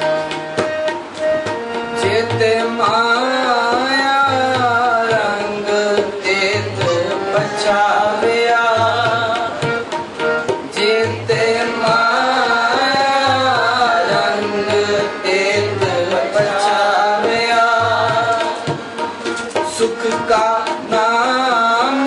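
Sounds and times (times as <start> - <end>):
harmonium: 0.0 - 22.0
tabla drum strokes: 0.0 - 22.0
man singing a hymn: 2.0 - 9.9, 10.7 - 18.8, 19.7 - 22.0.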